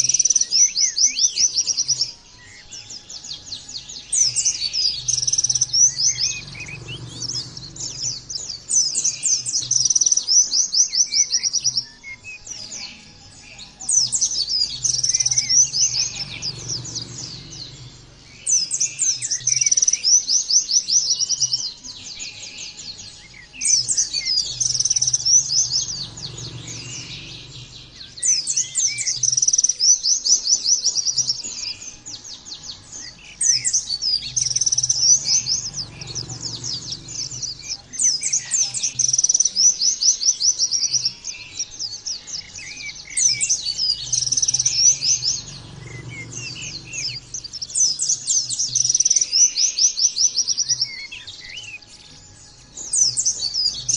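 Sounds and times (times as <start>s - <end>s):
bird chirping trills: 0.0s - 53.9s.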